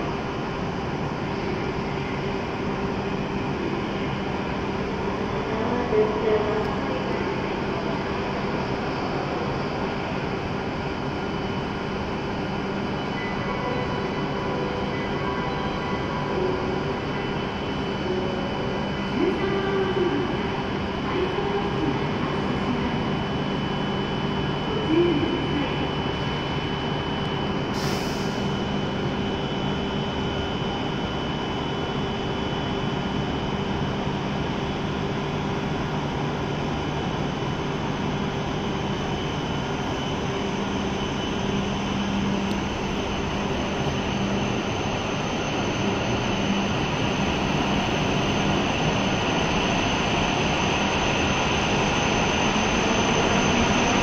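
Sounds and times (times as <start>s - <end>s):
train equipment humming: 0.0s - 54.0s.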